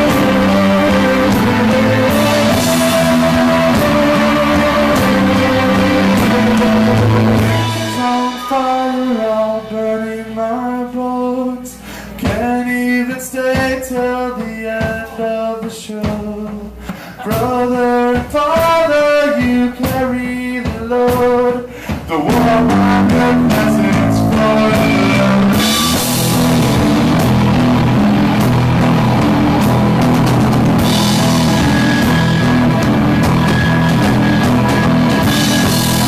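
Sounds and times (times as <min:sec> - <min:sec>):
sharp drum hits: 0:00.0 - 0:09.9, 0:16.9 - 0:36.0
live rock band playing: 0:00.0 - 0:11.0, 0:16.0 - 0:36.0.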